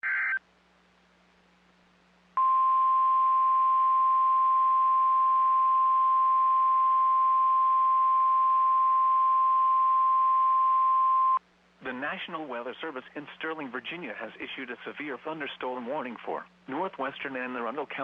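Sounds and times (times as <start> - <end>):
faint radio hiss and hum: 0.0 - 18.0.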